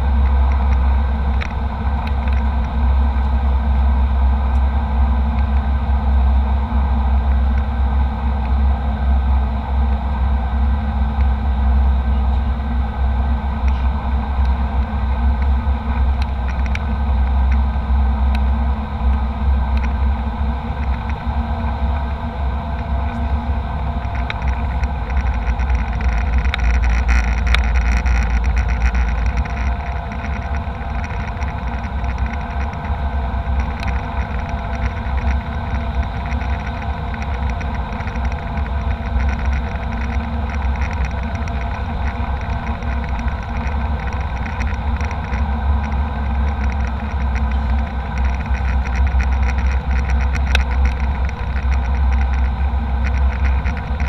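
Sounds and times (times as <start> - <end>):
faint steady hum: 0.0 - 54.0
jet engine cabin rumble: 0.0 - 54.0.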